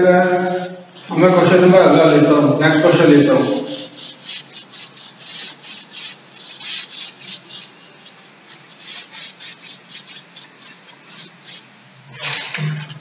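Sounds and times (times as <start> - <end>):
duster rubbing chalkboard: 0.0 - 12.7.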